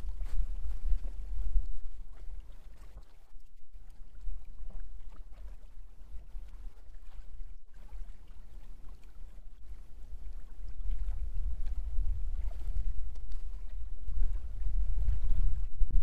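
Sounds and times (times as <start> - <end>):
rumble of wind and water: 0.0 - 16.0.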